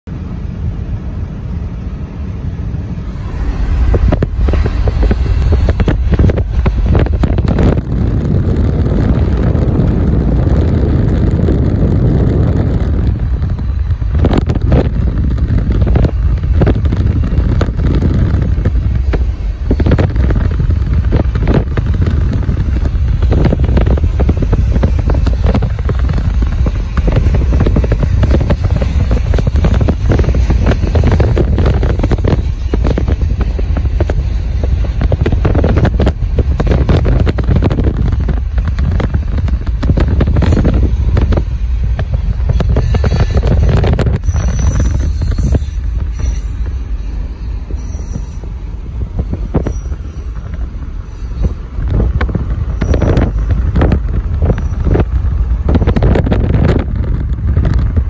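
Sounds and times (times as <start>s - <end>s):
low road rumble: 0.0s - 58.0s
wind buffeting microphone: 0.1s - 58.0s.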